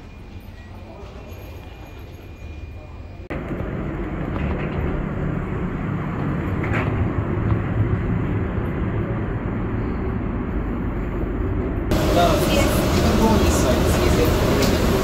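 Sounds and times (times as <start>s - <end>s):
low machinery rumble: 2.7s - 15.0s.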